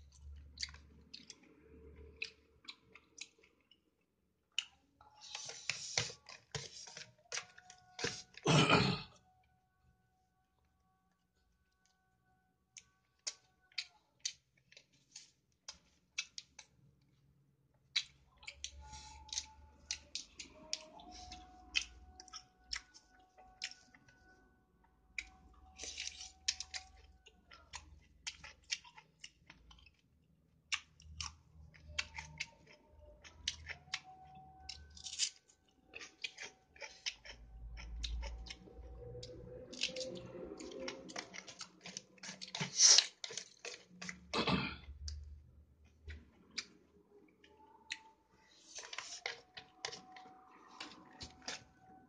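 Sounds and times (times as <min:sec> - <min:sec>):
wet chewing and lip-smacking: 0:00.0 - 0:08.4, 0:12.7 - 0:52.0.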